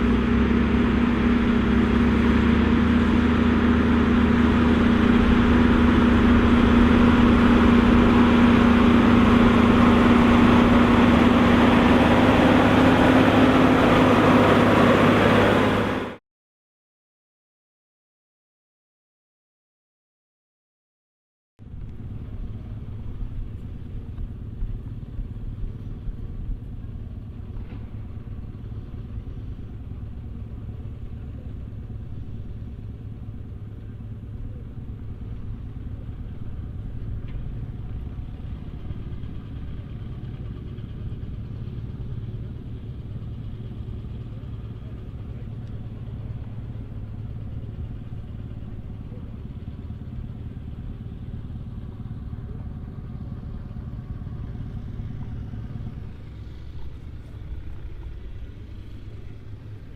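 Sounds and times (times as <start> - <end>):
tractor diesel engine running: 0.0 - 16.2, 21.6 - 59.9.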